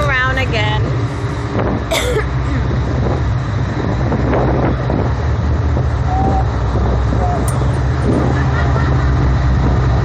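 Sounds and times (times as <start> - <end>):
boat engines humming: 0.0 - 10.0
wind buffeting microphone: 0.0 - 10.0.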